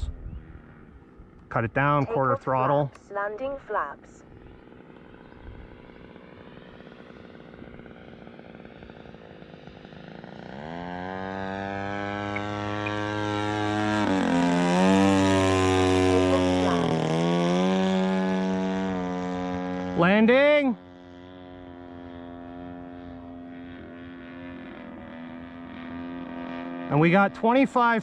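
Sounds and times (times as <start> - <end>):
model airplane engine in flight: 0.0 - 28.0.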